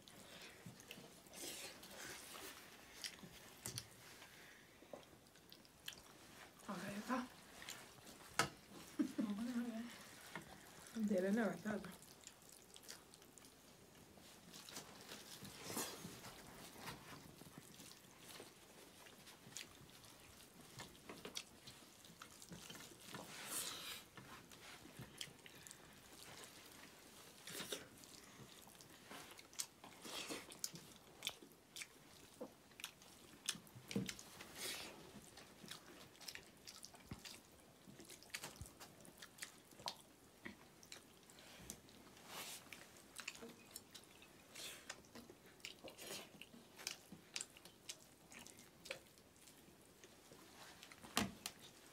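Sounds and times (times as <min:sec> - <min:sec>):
people chewing: 0:00.0 - 0:51.9.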